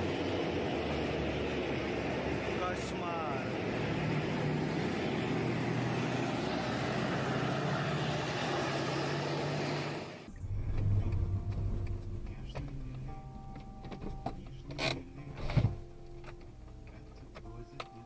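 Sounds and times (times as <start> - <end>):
deep engine rumble: 0.0 - 18.0
vehicle road and engine noise: 0.0 - 18.0.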